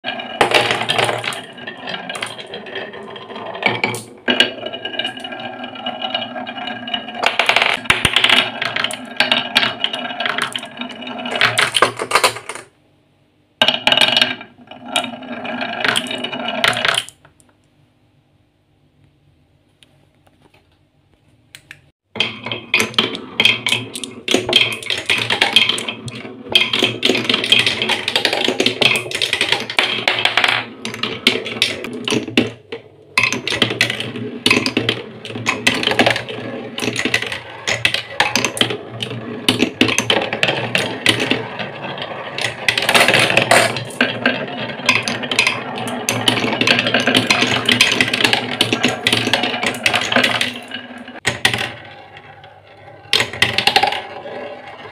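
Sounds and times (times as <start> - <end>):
marbles rolling on wooden run: 0.1 - 12.7, 13.6 - 17.2, 22.2 - 54.9.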